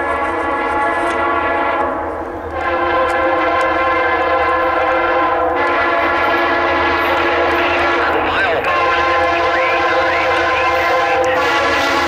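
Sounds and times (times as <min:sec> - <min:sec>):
locomotive air horn chord: 0:00.0 - 0:12.0
locomotive rumble: 0:00.0 - 0:12.0.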